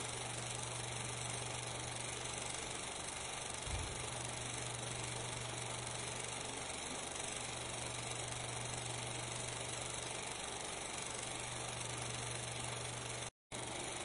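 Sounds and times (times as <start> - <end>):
film projector running: 0.0 - 14.0.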